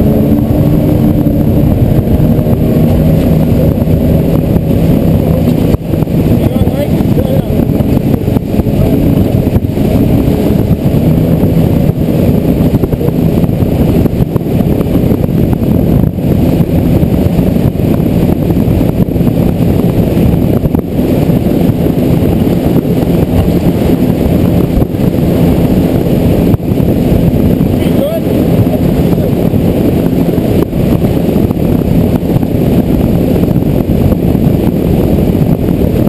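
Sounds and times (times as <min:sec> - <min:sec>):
outboard motors droning: 0:00.0 - 0:36.0
wind on microphone: 0:00.0 - 0:36.0.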